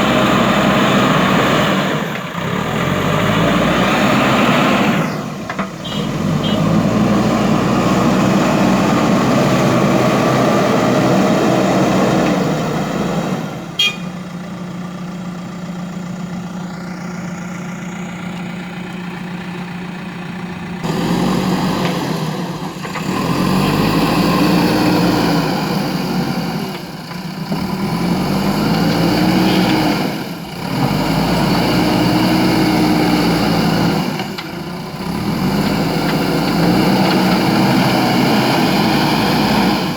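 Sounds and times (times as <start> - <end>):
diesel engine running and revving: 0.0 - 39.9.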